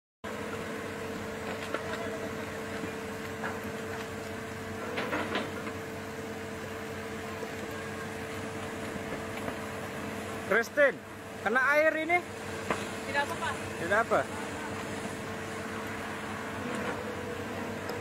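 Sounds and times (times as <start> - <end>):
bulldozer engine humming: 0.3 - 18.0.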